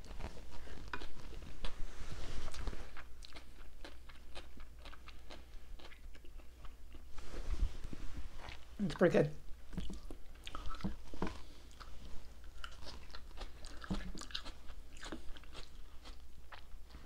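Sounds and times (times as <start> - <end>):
person chewing crunchy food: 0.0 - 7.2, 8.3 - 8.8, 9.4 - 17.0.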